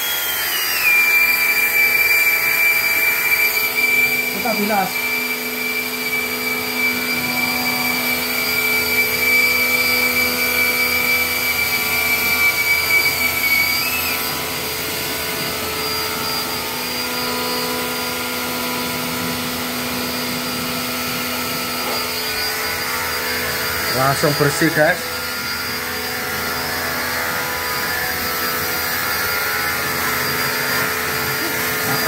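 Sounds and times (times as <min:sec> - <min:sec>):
pressure washer motor whining: 0:00.0 - 0:32.0.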